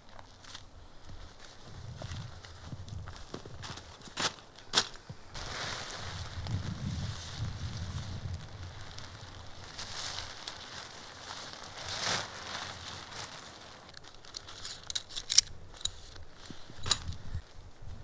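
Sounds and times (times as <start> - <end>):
tent fabric rustling: 0.0 - 18.0.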